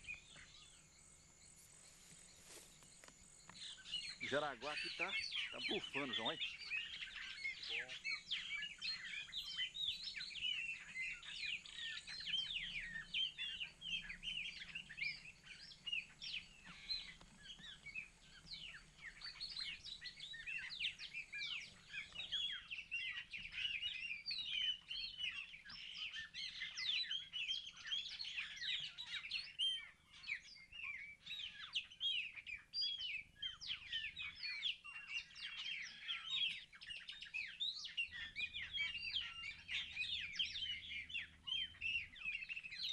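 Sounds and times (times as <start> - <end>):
chorus of birds chirping: 0.0 - 42.9.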